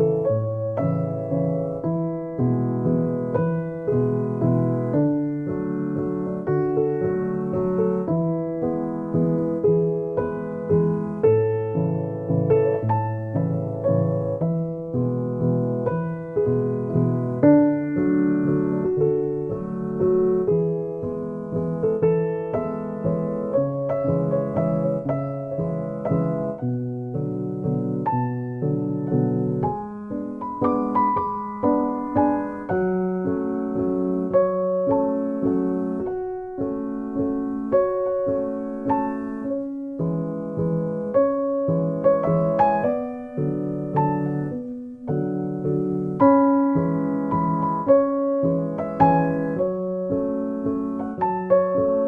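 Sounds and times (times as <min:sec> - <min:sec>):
piano music: 0:00.0 - 0:52.0.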